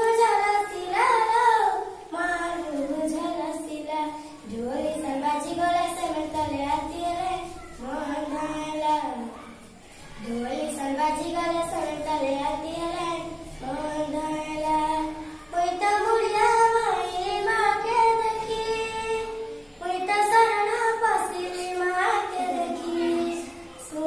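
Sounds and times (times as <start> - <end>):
girl singing unaccompanied: 0.0 - 24.0.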